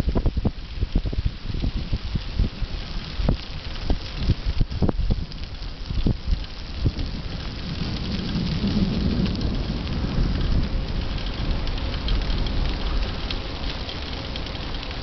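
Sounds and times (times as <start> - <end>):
rain drops ticking: 0.0 - 15.0
steady low rumble: 0.0 - 15.0.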